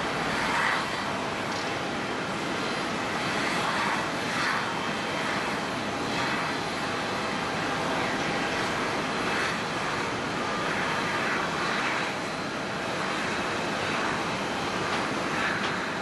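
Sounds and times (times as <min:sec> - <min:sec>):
jet engine noise: 0:00.0 - 0:16.0.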